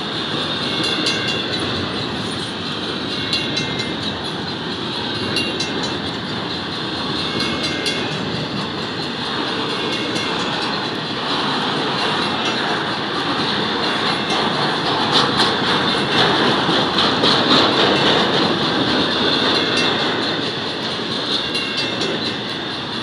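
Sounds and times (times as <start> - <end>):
clicks of train wheels: 0.0 - 23.0
train wheels rumbling on rail: 0.0 - 23.0.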